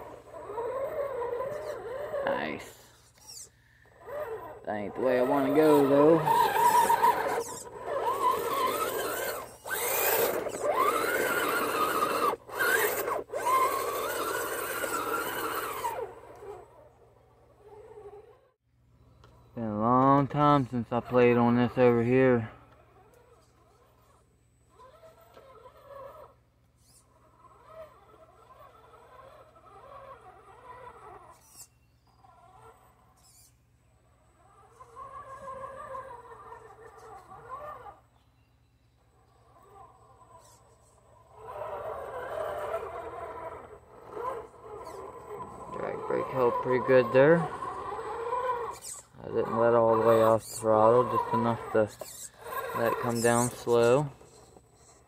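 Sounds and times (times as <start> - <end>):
electric motor whining: 0.0 - 18.6, 21.1 - 38.3, 39.0 - 55.0.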